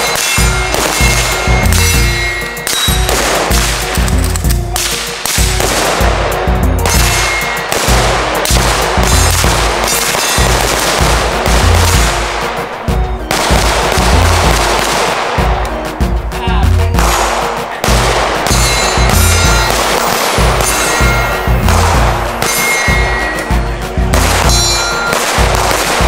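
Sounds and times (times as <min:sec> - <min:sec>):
rapid rifle gunshots: 0:00.0 - 0:15.8, 0:16.9 - 0:26.0
music with bass beat: 0:00.0 - 0:26.0.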